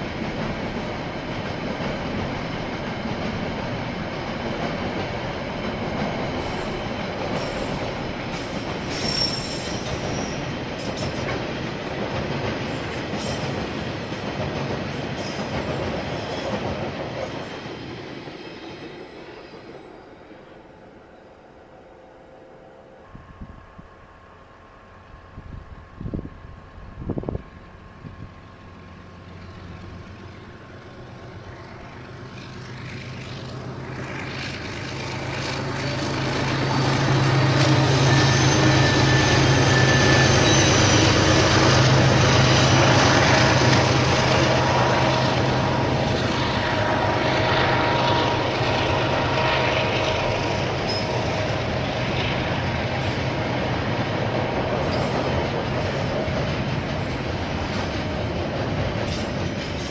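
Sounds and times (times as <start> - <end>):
diesel train engine drone: 0.0 - 59.9.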